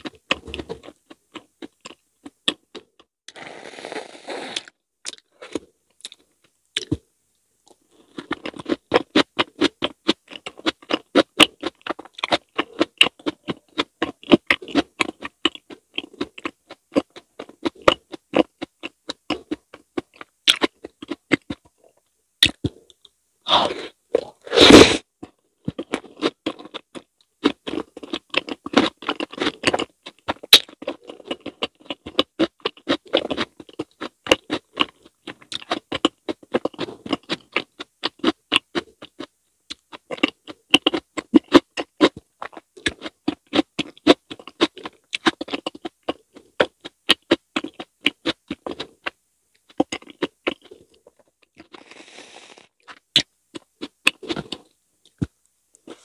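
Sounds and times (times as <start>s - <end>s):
wet chewing with mouth clicks: 7.7s - 23.1s, 25.2s - 56.0s.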